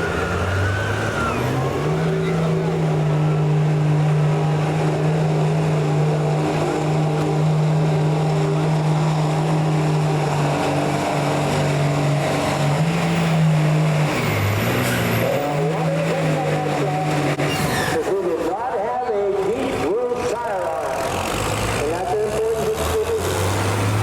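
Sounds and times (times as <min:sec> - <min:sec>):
engine at high revs under load: 0:00.0 - 0:17.7, 0:21.0 - 0:24.0.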